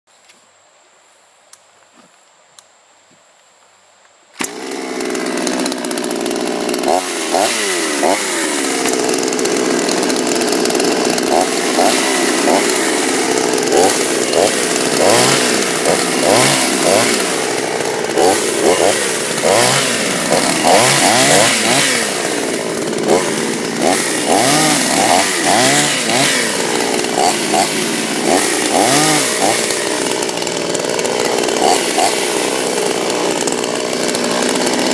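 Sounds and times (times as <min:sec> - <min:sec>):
chainsaw cutting wood: 0:04.4 - 0:34.9.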